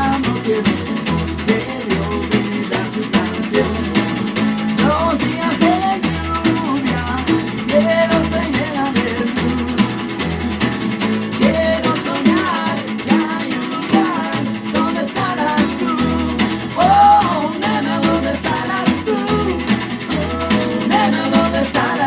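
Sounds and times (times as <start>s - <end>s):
bass: 0.0s - 22.0s
drum kit beat: 0.0s - 22.0s
guitar: 0.0s - 22.0s.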